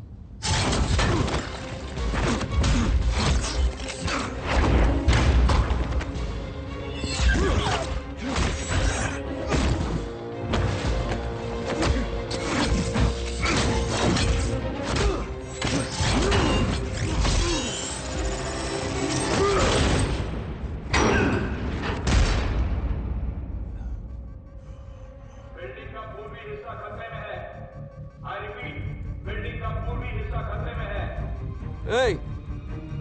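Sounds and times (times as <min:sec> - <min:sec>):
dramatic music: 0:00.4 - 0:33.0.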